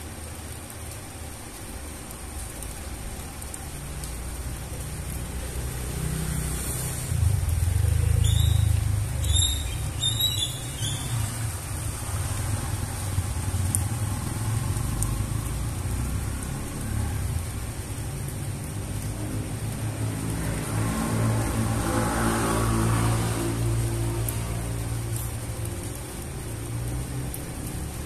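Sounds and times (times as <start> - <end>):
rain on wet concrete: 0.0 - 28.0
vehicle passing: 5.0 - 28.0.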